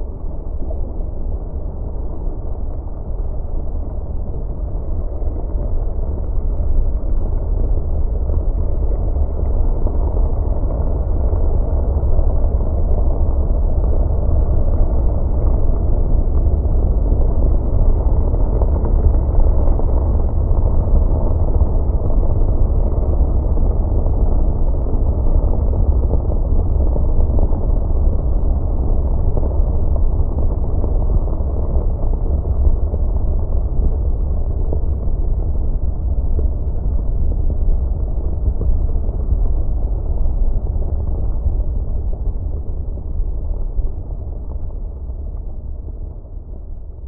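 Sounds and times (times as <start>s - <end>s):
deep rumble of moving ice: 0.0s - 47.0s.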